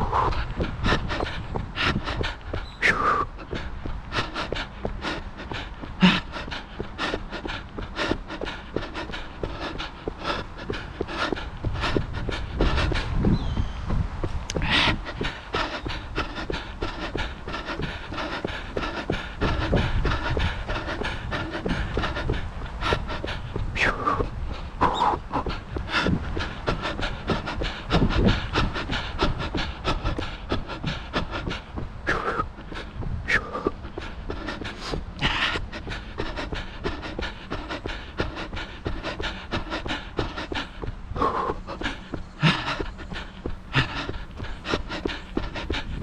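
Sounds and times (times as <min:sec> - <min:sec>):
heavy panting breaths: 0:00.0 - 0:46.0
running footsteps: 0:00.0 - 0:46.0.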